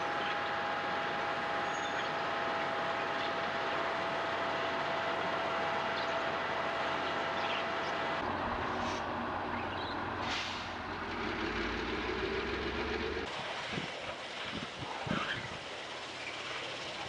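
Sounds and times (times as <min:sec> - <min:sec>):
deep diesel rumble: 0:00.0 - 0:17.0
track machinery running: 0:00.0 - 0:17.0.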